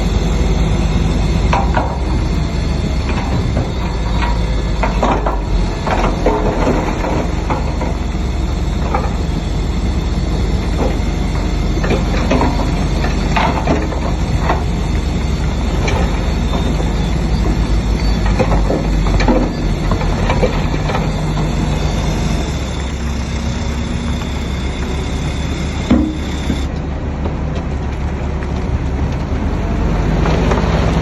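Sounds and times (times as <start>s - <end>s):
steel tracks clanking and squeaking: 0.0s - 27.7s
bulldozer diesel engine running: 0.0s - 31.0s.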